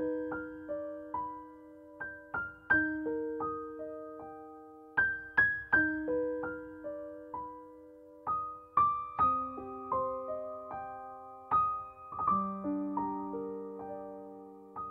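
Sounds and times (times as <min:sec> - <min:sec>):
gentle piano melody: 0:00.0 - 0:14.9.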